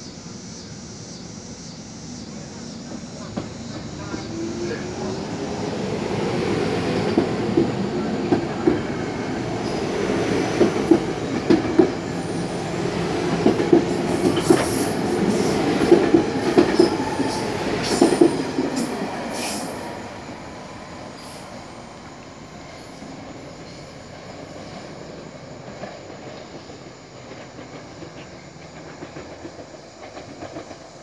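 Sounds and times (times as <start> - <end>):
electric train rumbling past: 0.0 - 31.0.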